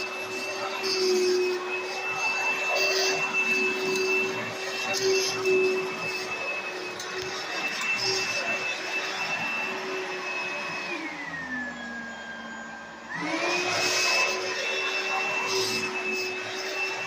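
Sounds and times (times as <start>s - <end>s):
vacuum cleaner motor whine: 0.0s - 17.0s.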